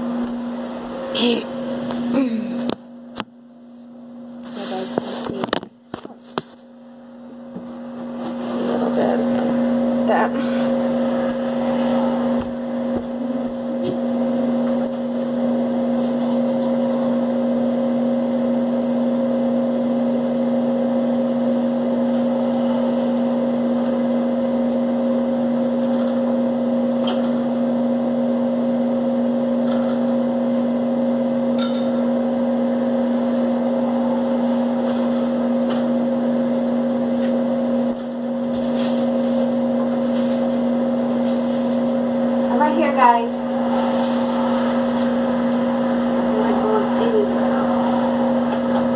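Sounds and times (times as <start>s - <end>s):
steady mechanical hum: 0.0s - 48.9s.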